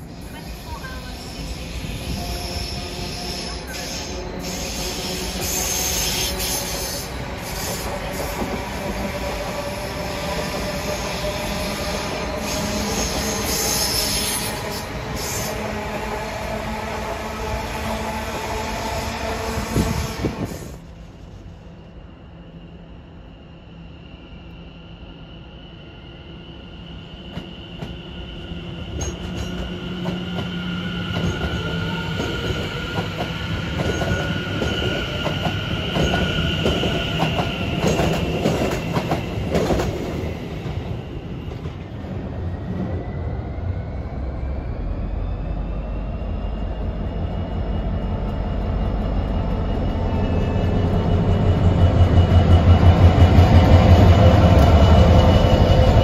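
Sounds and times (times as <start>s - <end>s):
train wheels squealing: 0.0s - 15.9s, 19.6s - 56.0s.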